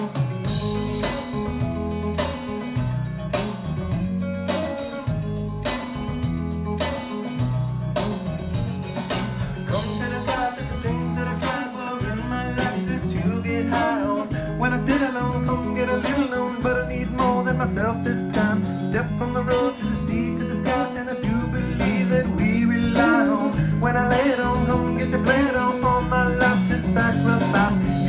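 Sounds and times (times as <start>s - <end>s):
guitar: 0.0s - 28.0s
rock blues song: 0.0s - 28.0s
steady drum beat: 0.0s - 28.0s.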